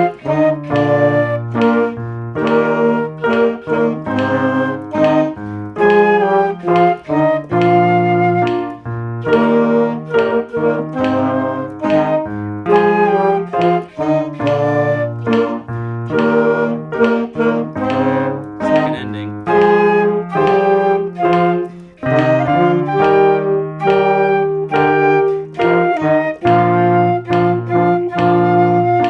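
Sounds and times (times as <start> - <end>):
piano melody and chords: 0.0 - 29.0.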